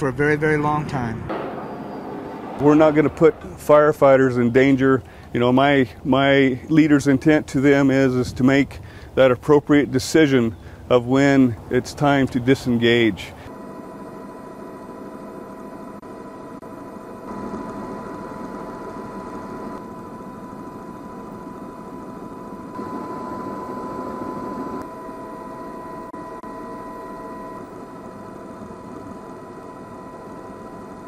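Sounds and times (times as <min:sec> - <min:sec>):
steady mechanical drone: 0:00.0 - 0:31.0.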